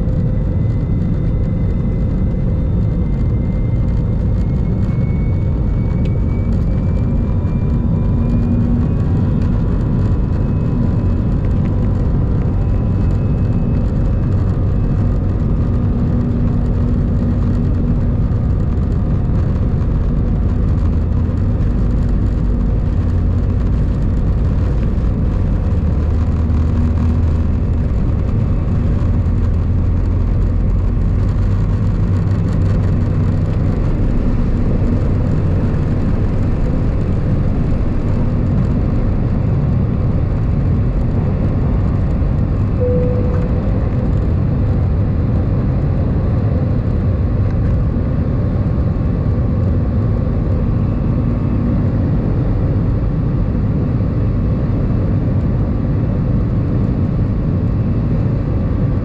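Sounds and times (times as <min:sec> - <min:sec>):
jet engines at takeoff thrust: 0:00.0 - 0:59.0
runway rumble: 0:00.0 - 0:59.0.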